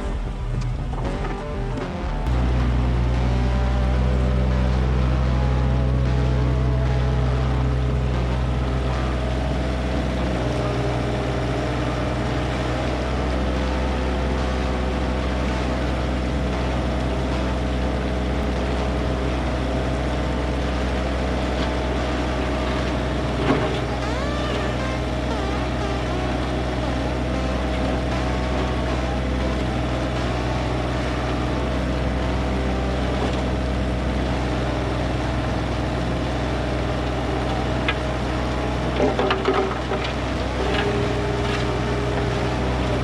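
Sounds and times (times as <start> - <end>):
diesel engine droning: 0.0 - 43.0.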